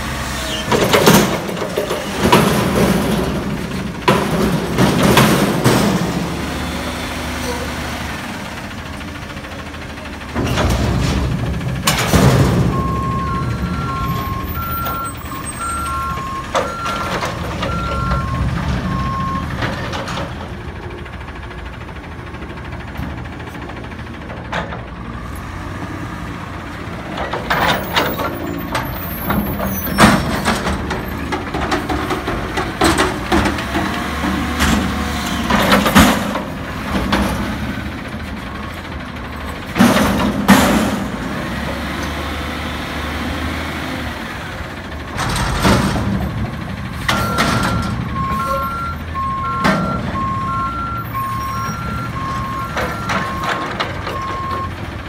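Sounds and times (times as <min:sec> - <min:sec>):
diesel engine running: 0:00.0 - 0:55.0
metal dumpster bangs and clanks: 0:00.5 - 0:07.8, 0:08.5 - 0:21.4, 0:26.9 - 0:42.3, 0:44.6 - 0:55.0.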